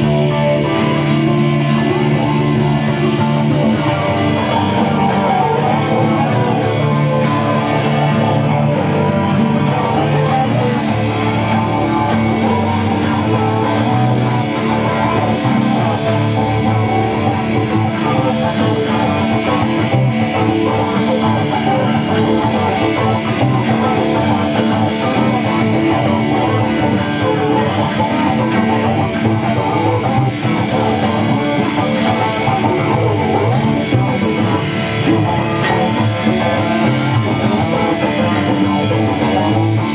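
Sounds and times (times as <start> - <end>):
acoustic guitars playing: 0.0 - 39.9.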